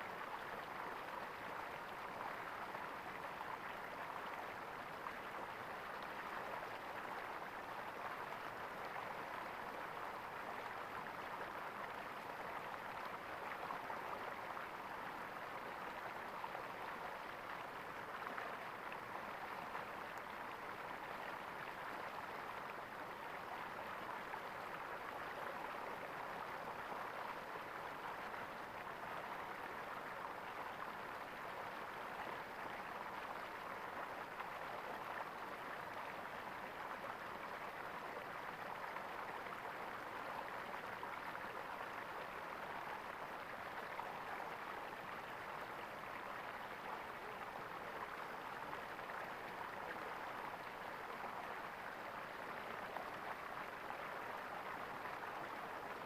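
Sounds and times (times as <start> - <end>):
stream water gurgling: 0.0 - 56.0.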